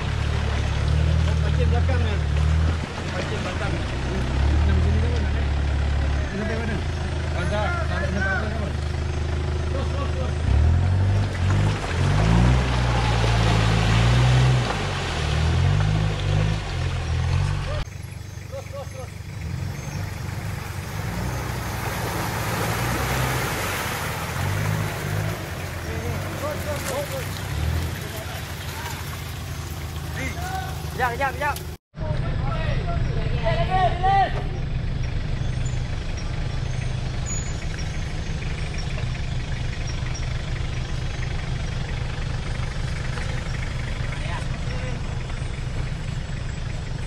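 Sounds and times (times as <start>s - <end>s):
off-road vehicle engine running: 0.0s - 47.0s.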